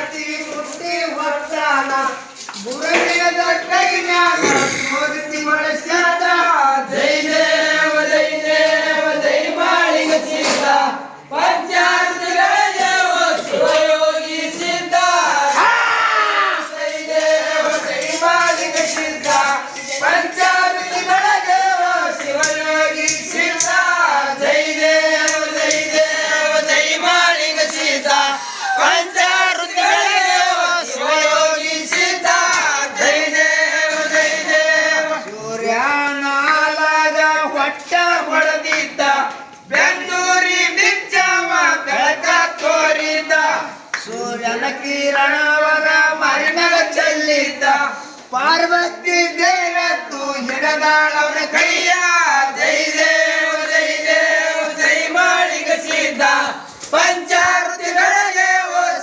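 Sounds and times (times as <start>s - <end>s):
men singing a hymn together: 0.0s - 59.0s.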